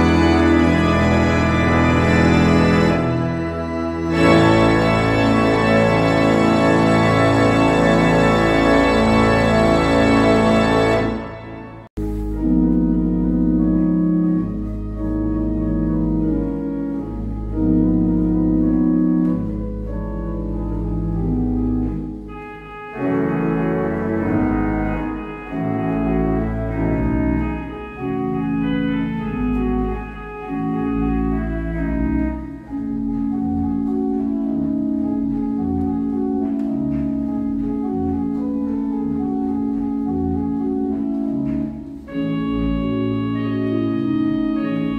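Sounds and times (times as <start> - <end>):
church pipe organ playing chords: 0.0 - 44.9.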